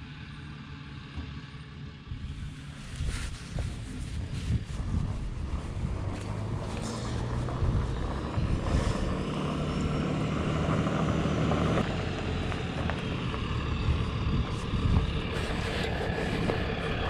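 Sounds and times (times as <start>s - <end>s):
pickup truck engine running: 1.8s - 17.0s.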